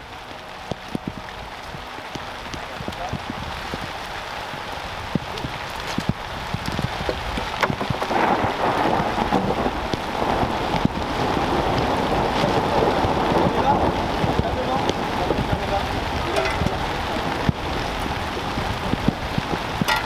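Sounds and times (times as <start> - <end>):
raindrops ticking: 0.0 - 20.0
steady rain hiss: 0.0 - 20.0.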